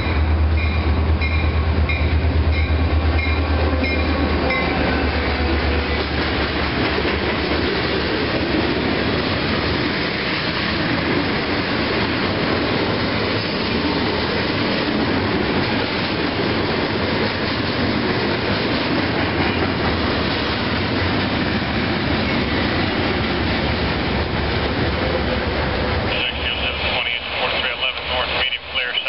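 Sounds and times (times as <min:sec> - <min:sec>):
steel wheels on rail: 0:00.0 - 0:29.0.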